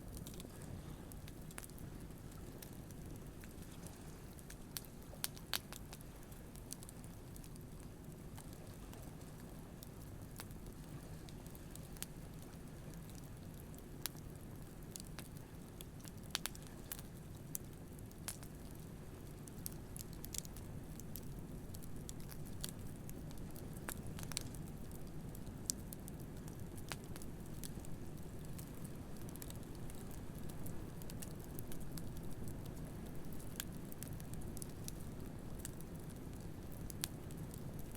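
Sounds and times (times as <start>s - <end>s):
campfire crackling and popping: 4.3s - 9.1s, 9.7s - 37.9s.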